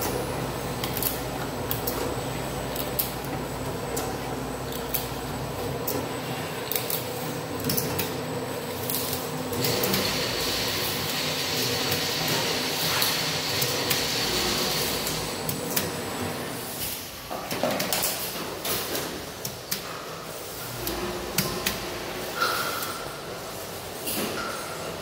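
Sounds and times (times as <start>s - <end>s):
conveyors and labelling machine whirring: 0.0s - 25.0s.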